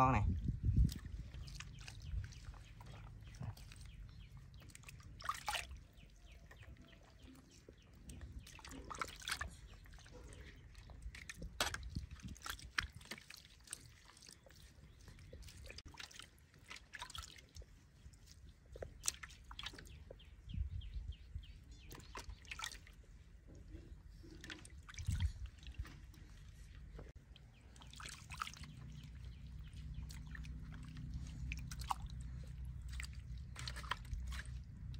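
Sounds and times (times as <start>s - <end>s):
water splashing in metal basin: 0.0s - 20.0s, 21.9s - 23.0s, 24.2s - 34.9s.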